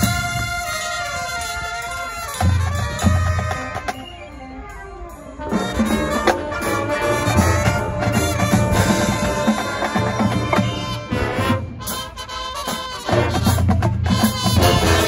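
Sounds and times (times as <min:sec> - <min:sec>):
drums and percussion: 0:00.0 - 0:15.0
marching band brass chords: 0:00.0 - 0:15.0.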